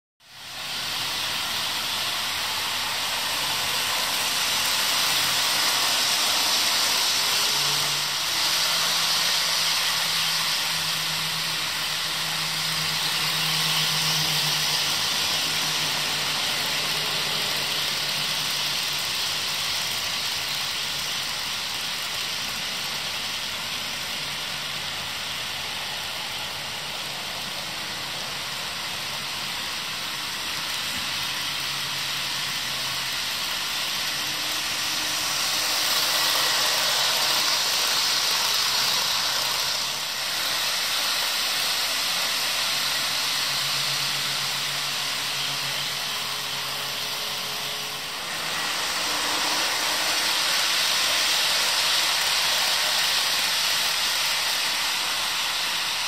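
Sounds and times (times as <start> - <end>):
model train wheels whirring on rail: 0.2 - 56.0.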